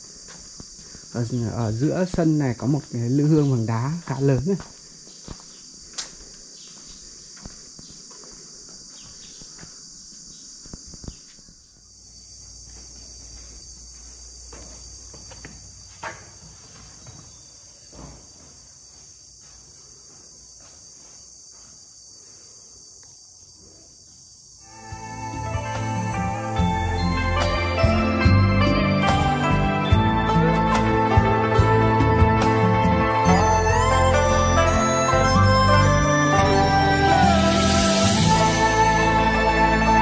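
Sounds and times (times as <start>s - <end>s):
insects shrilling: 0.0s - 18.0s, 21.2s - 29.1s, 32.0s - 40.0s.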